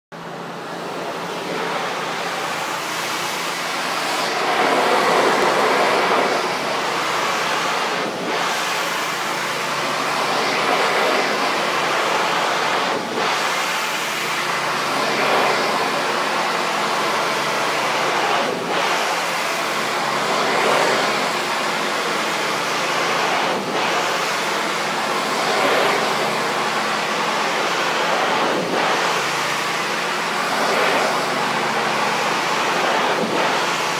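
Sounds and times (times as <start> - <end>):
pressure washer spraying: 0.3 - 33.9.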